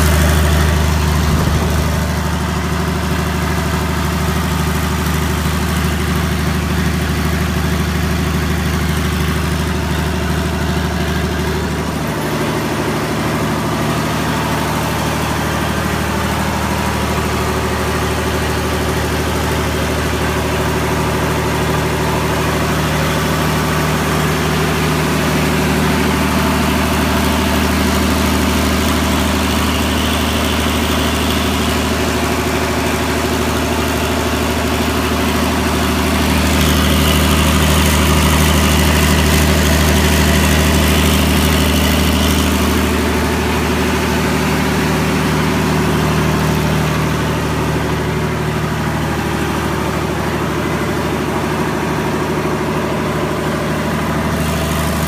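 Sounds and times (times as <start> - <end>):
generator engine running: 0.0 - 55.0.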